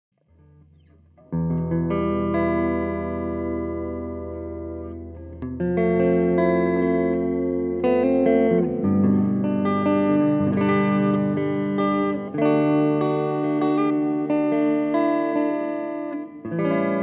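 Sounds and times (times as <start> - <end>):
electric guitar chords ringing: 0.3 - 17.0.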